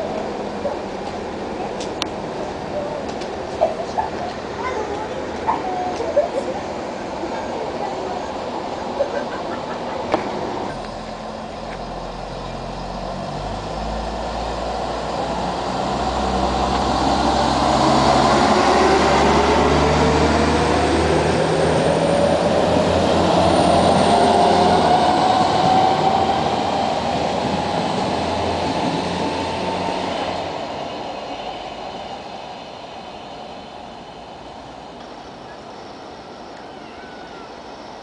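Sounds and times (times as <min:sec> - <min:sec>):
diesel train engines under load: 0:00.0 - 0:38.0
rising whine of train: 0:00.0 - 0:38.0.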